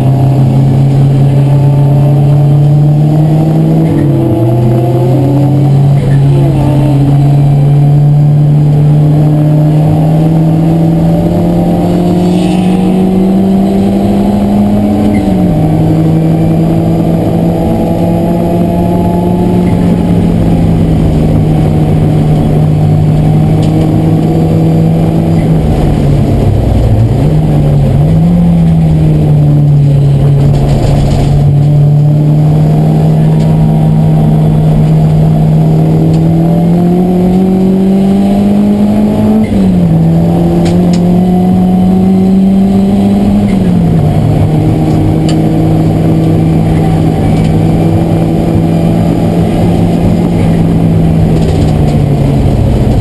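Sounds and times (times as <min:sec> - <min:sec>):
race car engine accelerating: 0:00.0 - 0:53.0.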